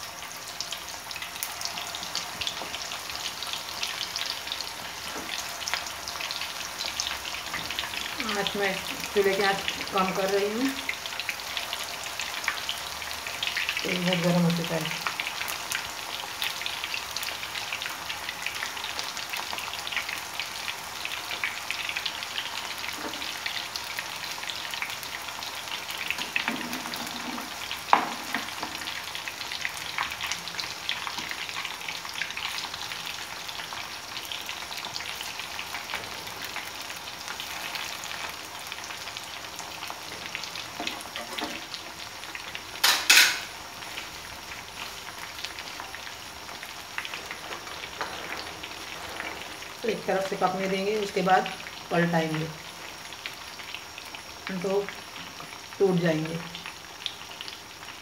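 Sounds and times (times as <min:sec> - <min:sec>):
oil crackling and sizzling: 0:00.0 - 0:58.0.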